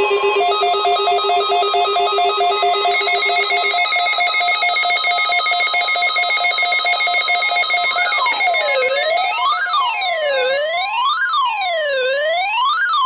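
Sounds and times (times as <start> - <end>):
electronic warning alarm tones: 0.0 - 13.0
siren-like wail: 0.0 - 13.0.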